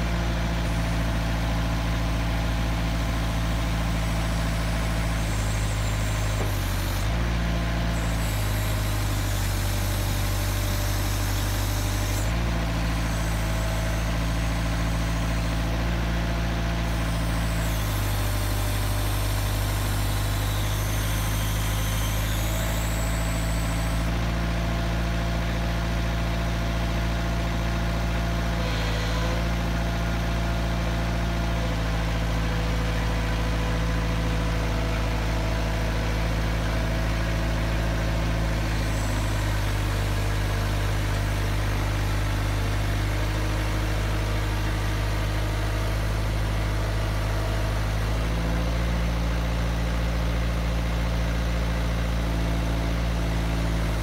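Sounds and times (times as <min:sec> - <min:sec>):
post driver engine running: 0:00.0 - 0:54.0.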